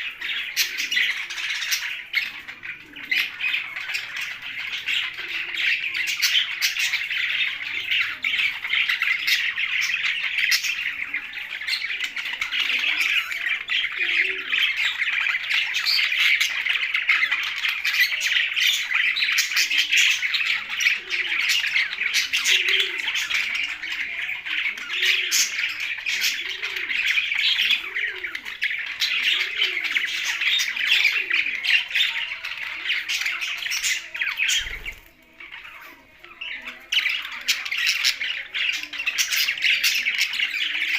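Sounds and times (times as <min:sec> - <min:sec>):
parrots chattering and squawking: 0:00.0 - 0:40.9.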